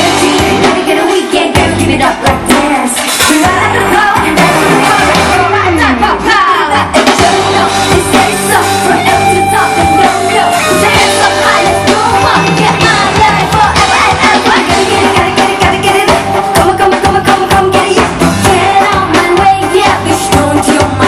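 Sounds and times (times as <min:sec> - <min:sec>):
live pop band over speakers: 0:00.0 - 0:21.0
person singing: 0:00.0 - 0:21.0.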